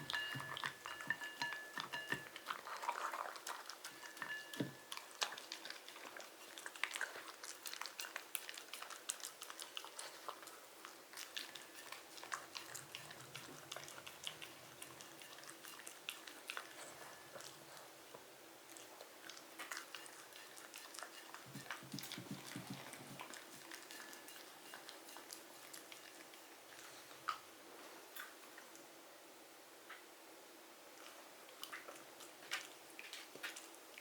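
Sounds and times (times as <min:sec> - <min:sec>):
dog chewing: 0:00.0 - 0:27.5, 0:31.0 - 0:34.0.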